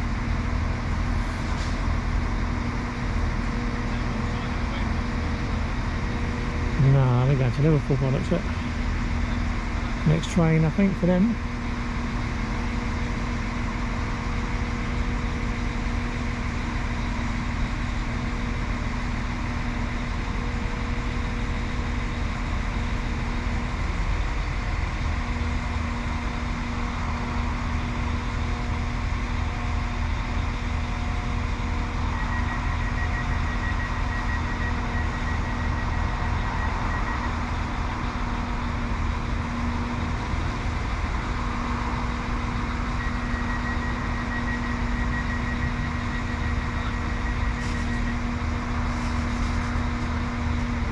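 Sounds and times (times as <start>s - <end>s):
diesel train engine idling: 0.0s - 50.9s.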